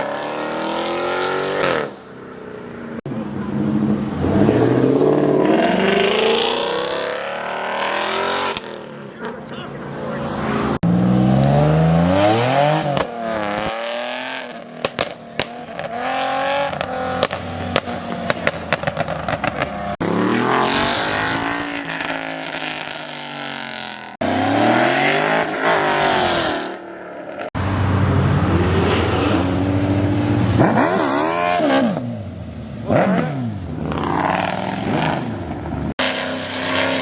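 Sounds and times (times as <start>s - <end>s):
cars revving and accelerating: 0.0s - 37.0s.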